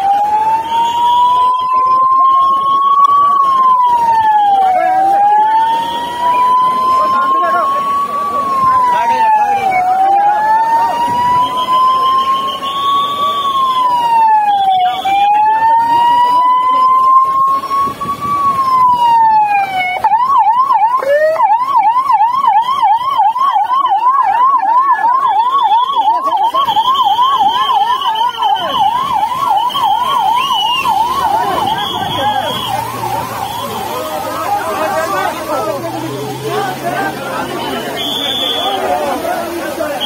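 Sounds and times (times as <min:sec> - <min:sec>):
ambulance siren wailing and yelping: 0:00.0 - 0:40.0
crowd noise: 0:00.0 - 0:40.0.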